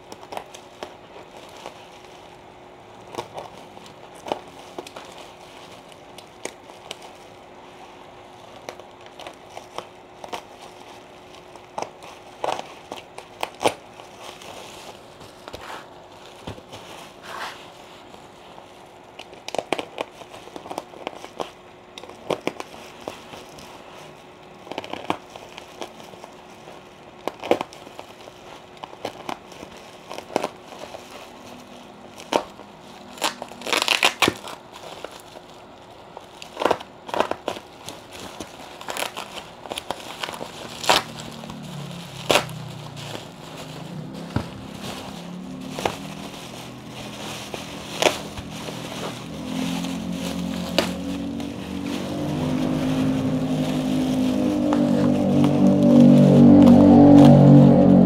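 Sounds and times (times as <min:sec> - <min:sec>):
bubble wrap crackling and popping: 0:00.0 - 0:58.0.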